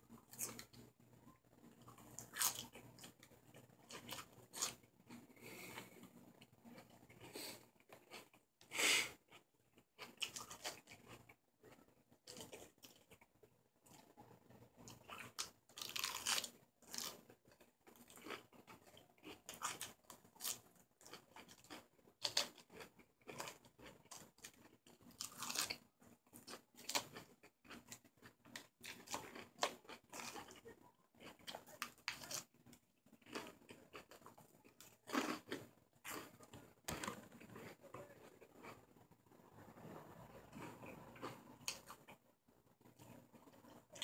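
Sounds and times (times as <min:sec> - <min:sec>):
person chewing crunchy lettuce: 0:01.8 - 0:09.4, 0:10.0 - 0:13.2, 0:14.8 - 0:38.8, 0:40.5 - 0:42.1.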